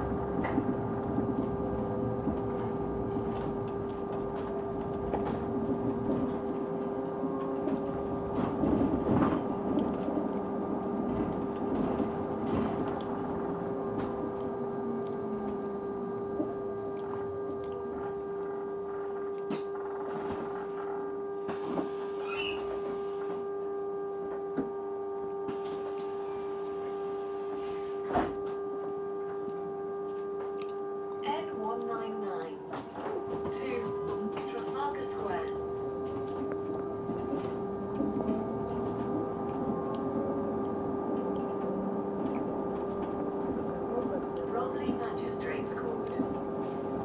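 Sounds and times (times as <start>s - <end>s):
bus steady whining tone: 0.0s - 47.0s.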